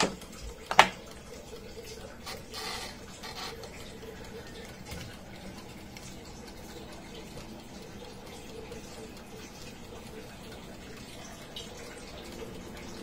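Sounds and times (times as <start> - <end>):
air fryer fan whirring: 0.0 - 13.0.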